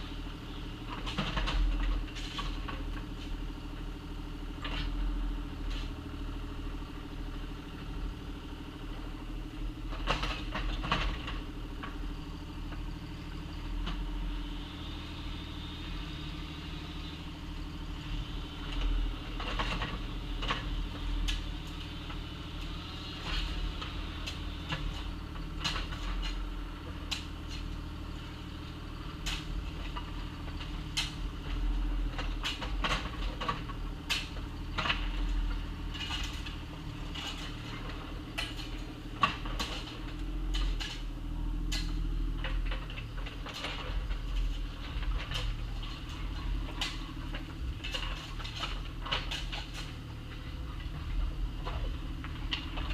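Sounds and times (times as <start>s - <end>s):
excavator engine running: 0.0s - 52.9s.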